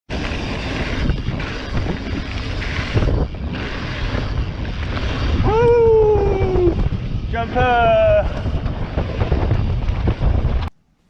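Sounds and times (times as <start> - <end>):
wind buffeting microphone: 0.1 - 10.7.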